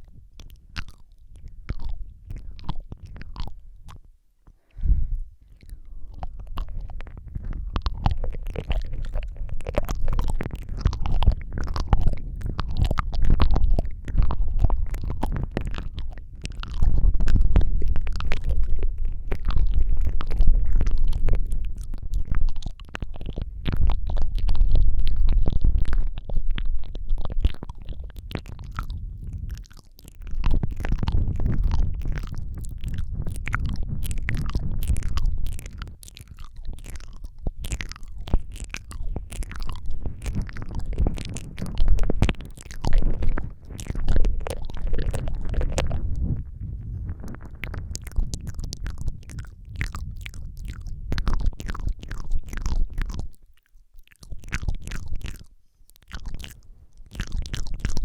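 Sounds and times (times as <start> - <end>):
wet mouth clicks and smacks: 0.0 - 4.8, 5.4 - 58.0
heavy low rumble: 4.8 - 53.1.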